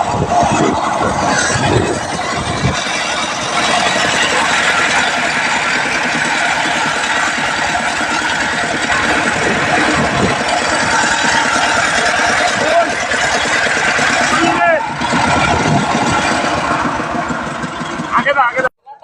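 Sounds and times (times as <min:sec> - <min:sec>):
engine running: 0:00.0 - 0:18.7.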